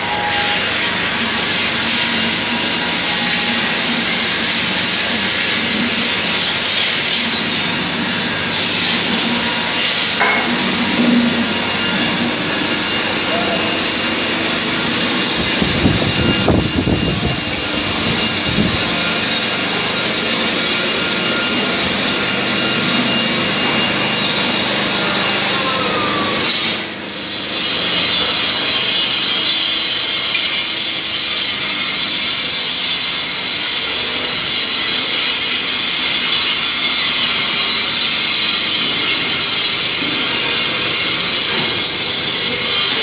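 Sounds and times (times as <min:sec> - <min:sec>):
factory machinery hiss: 0:00.0 - 0:43.0.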